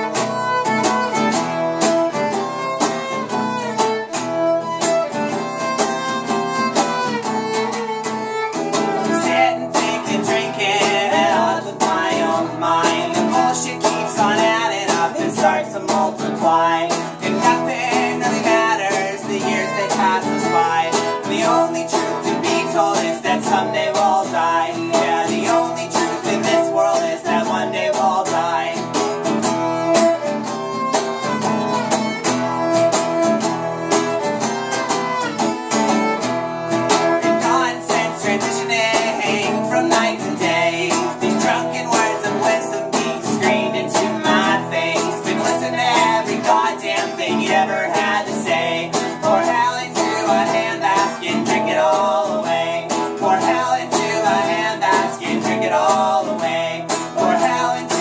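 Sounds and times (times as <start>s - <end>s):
violin melody: 0.0s - 51.0s
acoustic guitar strumming: 0.0s - 58.0s.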